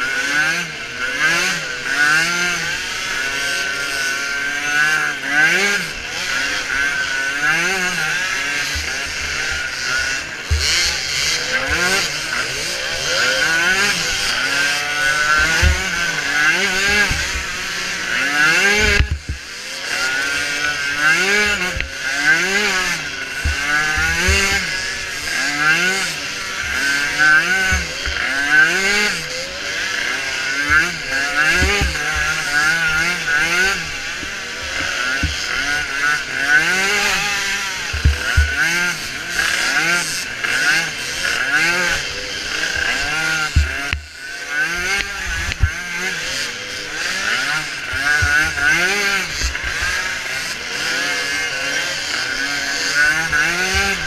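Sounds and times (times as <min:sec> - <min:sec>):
small atv engines revving: 0:00.0 - 0:54.0.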